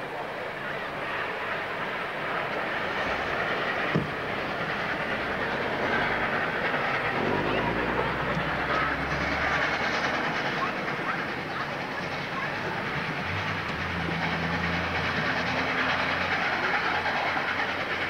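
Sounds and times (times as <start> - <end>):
steam locomotive working up grade: 0.0 - 18.0.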